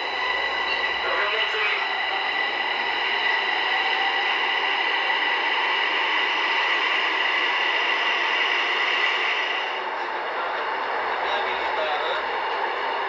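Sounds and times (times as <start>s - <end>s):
train rushing noise: 0.0s - 13.0s.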